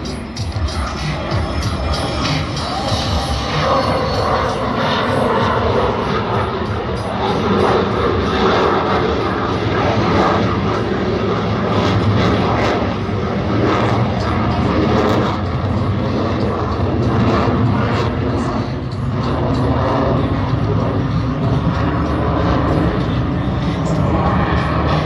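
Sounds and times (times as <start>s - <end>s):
fighter jet engines roaring: 0.0s - 25.0s.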